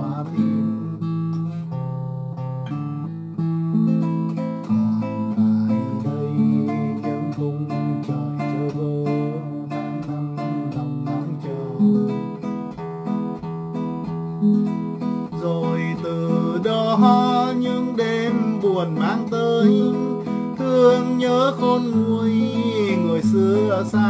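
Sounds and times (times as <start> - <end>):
fingerpicked nylon-string guitar: 0.0 - 24.0.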